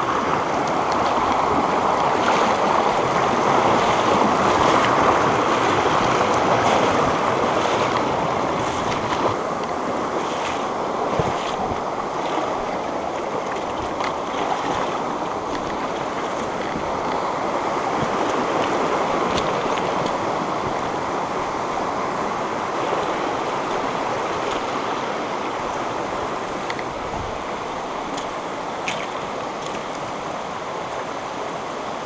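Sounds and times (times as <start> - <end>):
stream rushing over rocks: 0.0 - 32.0.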